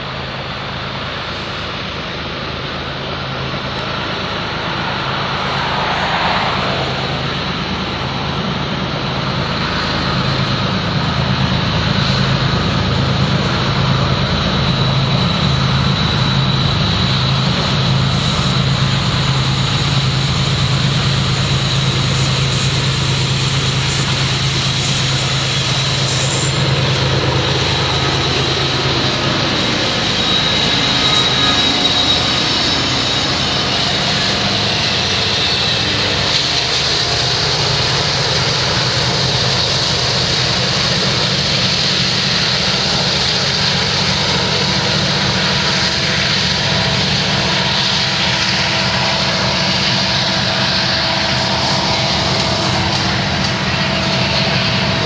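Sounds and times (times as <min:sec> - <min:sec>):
diesel locomotive engine hum: 0:00.0 - 0:55.0
train wheels on rail: 0:00.0 - 0:55.0.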